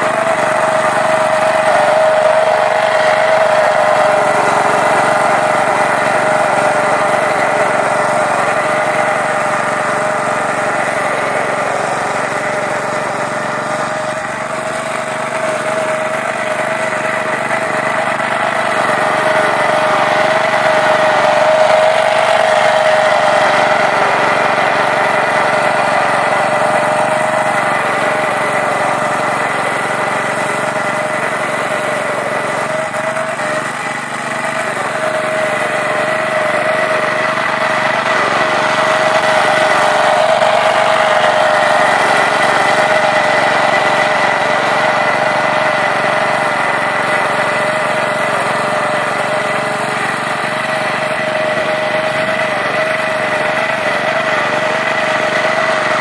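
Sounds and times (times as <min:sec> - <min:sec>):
cultivator engine running: 0:00.0 - 0:56.0
tines churning soil: 0:00.0 - 0:56.0.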